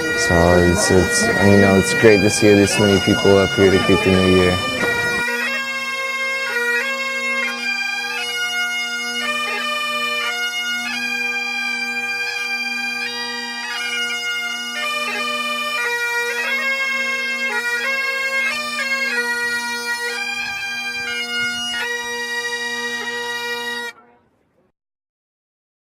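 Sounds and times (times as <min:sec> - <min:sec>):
bagpipes playing a tune: 0:00.0 - 0:24.0.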